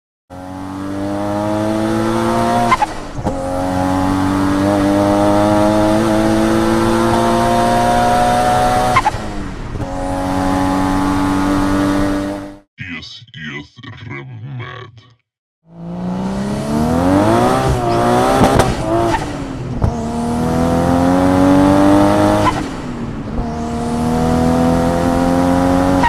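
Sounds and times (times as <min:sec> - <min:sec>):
car engine accelerating: 0:00.3 - 0:12.6, 0:15.7 - 0:26.0.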